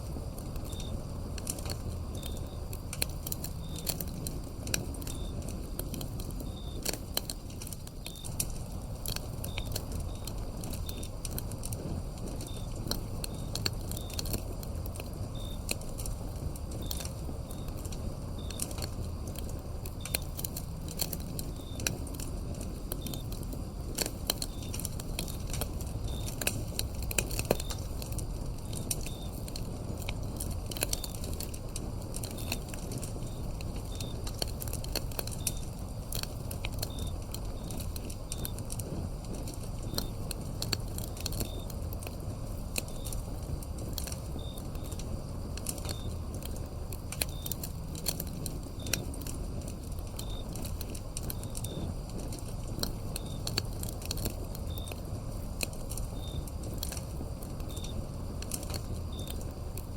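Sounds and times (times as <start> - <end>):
cricket chirping: 0.0 - 59.9
firewood crackling and popping: 0.0 - 59.9.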